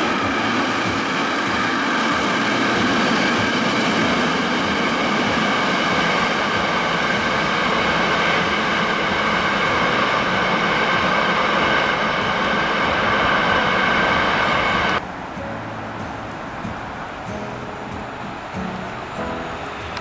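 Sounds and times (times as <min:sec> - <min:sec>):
freight train wheels on track: 0:00.0 - 0:20.0.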